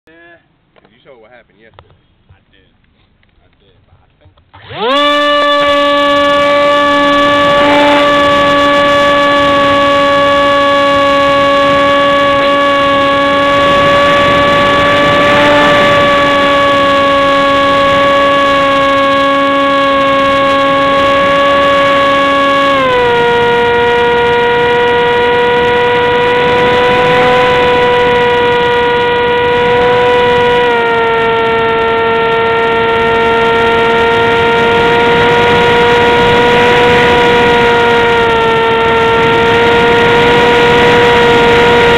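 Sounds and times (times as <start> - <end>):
model airplane motor whine: 4.4 - 41.9.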